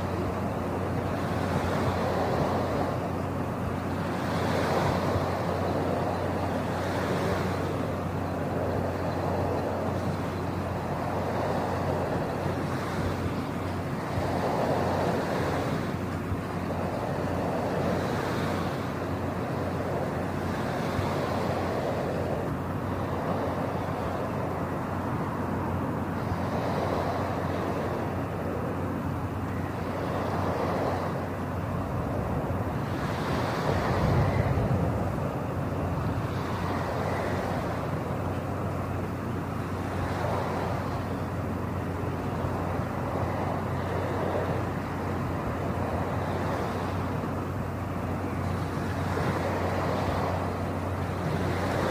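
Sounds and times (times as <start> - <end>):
constant low hum: 0.0 - 51.9
steady rushing noise: 0.0 - 51.9.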